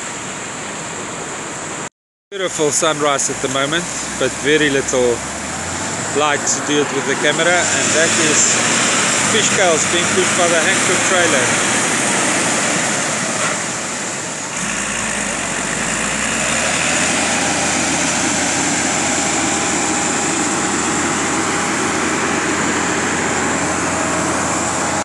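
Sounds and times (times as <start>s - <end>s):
outboard motors running: 2.4s - 25.0s
tractor engine running: 2.4s - 25.0s
waves breaking: 2.6s - 24.7s.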